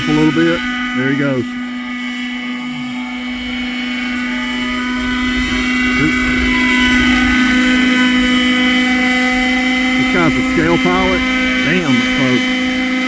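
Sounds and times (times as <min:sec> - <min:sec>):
model helicopter engine and rotors: 0:00.0 - 0:13.0.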